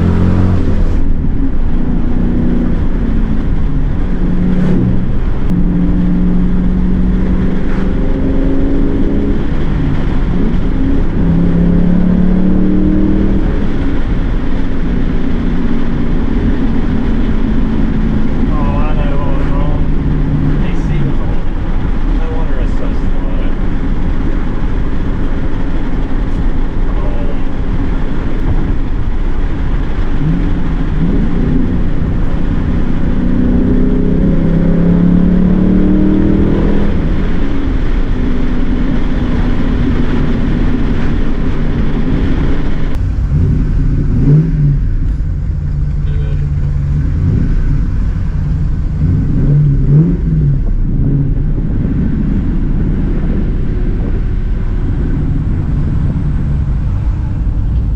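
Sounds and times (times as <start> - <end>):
car engine accelerating: 0.0 - 57.9
engine throttle blips: 0.0 - 57.9.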